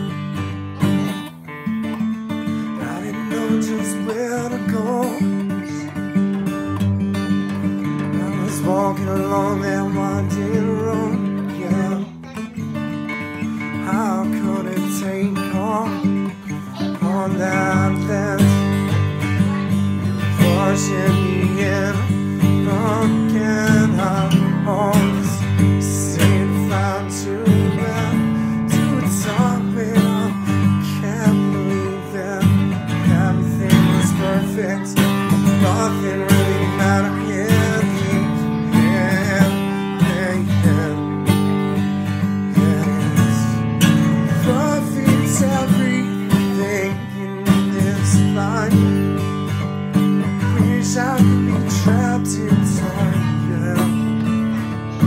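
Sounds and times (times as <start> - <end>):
acoustic guitar strumming: 0.0 - 55.0
person singing: 0.0 - 55.0.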